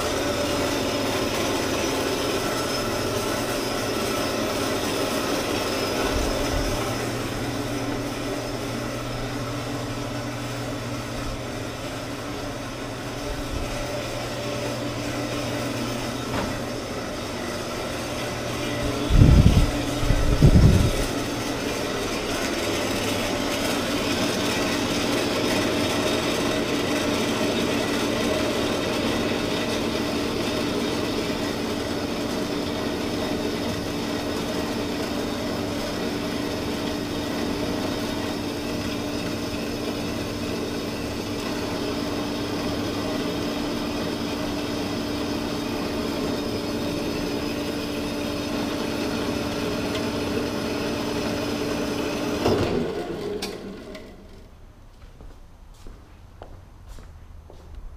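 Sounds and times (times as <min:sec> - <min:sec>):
band saw cutting metal tubing: 0:00.0 - 0:54.2.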